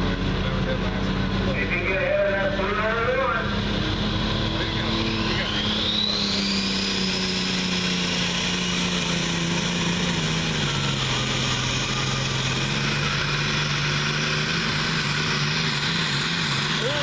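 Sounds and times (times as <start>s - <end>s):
diesel tractor engine at full power: 0.0s - 17.0s
high turbo whine: 0.0s - 17.0s.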